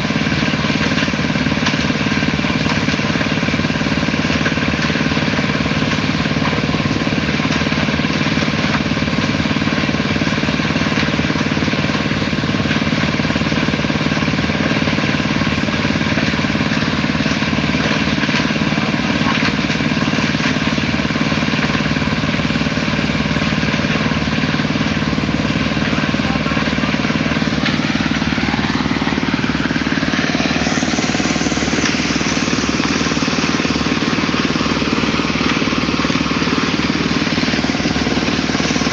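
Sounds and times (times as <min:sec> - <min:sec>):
concrete mixer engine running: 0:00.0 - 0:38.9.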